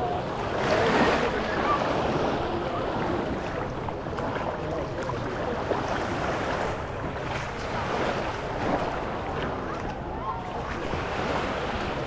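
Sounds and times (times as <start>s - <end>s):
faint distant voices: 0.0s - 12.0s
waves on the shore: 0.0s - 12.0s
wind on the microphone: 0.0s - 12.0s.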